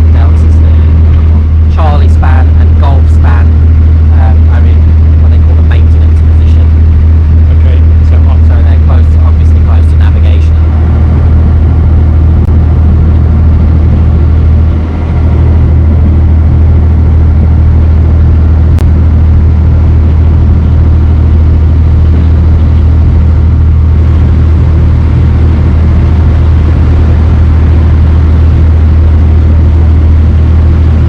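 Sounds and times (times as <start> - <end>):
boat engine low drone: 0.0 - 31.0.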